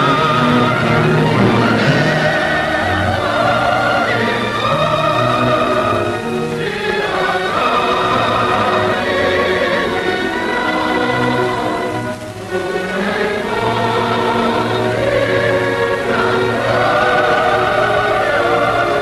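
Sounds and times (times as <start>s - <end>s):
choir singing held chords: 0.0s - 19.0s
orchestra: 0.0s - 19.0s.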